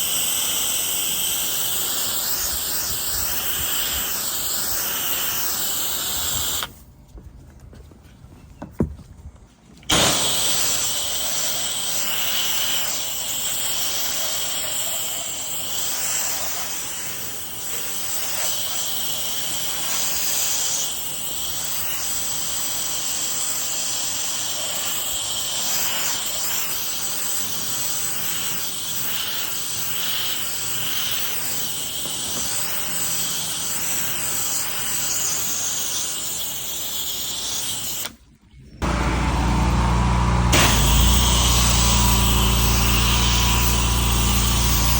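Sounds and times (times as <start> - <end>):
pressure washer spray hissing: 0.0 - 6.8, 9.9 - 38.2, 38.8 - 44.9.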